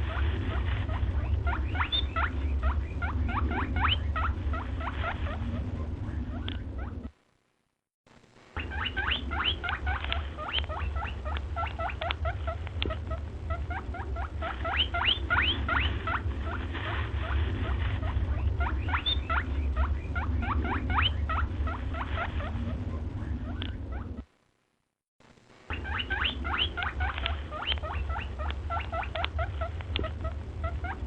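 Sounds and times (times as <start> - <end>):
small animals squeaking: 0.0 - 7.1, 8.6 - 24.3, 25.7 - 31.0
steady low hum: 0.0 - 31.0.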